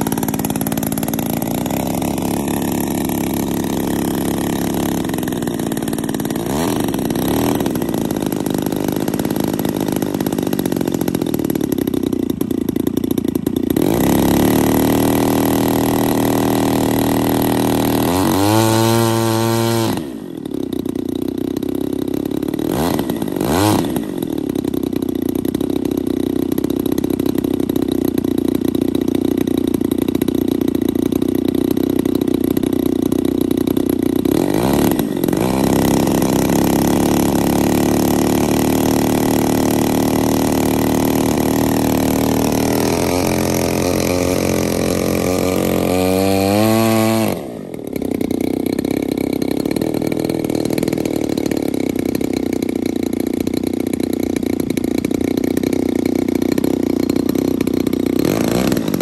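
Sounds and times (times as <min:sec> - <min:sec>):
model plane engine revving: 0:00.0 - 0:59.0.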